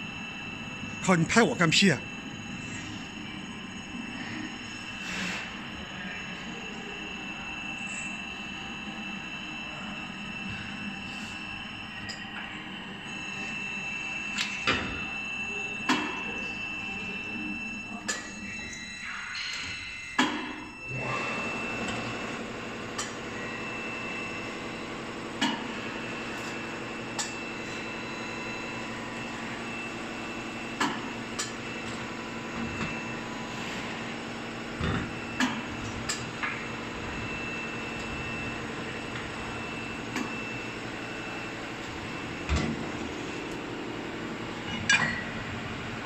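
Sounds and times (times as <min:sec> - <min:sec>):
bending machine hum and whine: 0:00.0 - 0:46.0.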